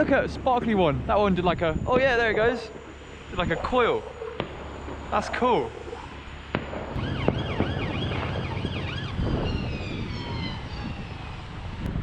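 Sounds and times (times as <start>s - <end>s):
low rumble: 0.0s - 12.0s
distant siren warbling: 1.7s - 12.0s.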